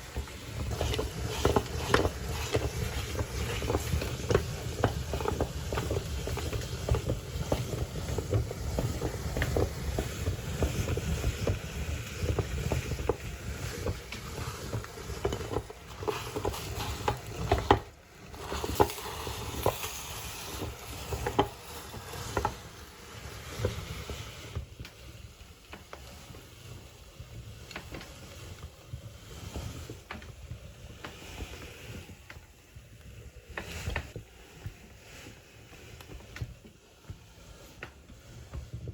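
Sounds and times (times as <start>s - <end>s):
meat grinder grinding candy: 0.0s - 38.9s.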